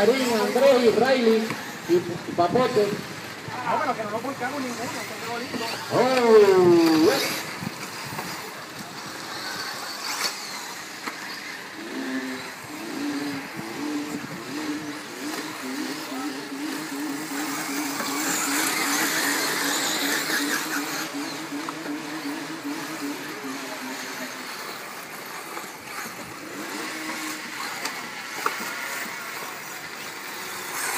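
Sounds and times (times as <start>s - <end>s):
rc cars motors whining: 0.0s - 30.9s.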